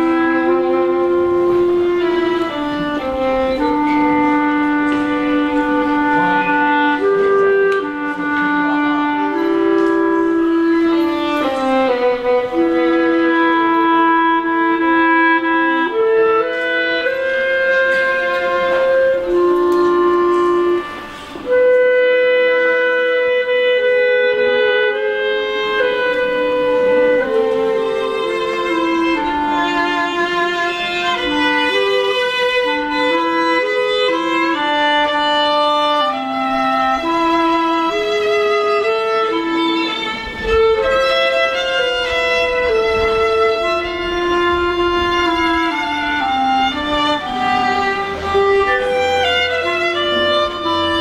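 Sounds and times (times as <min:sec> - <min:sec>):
slow instrumental duet: 0:00.0 - 0:51.0.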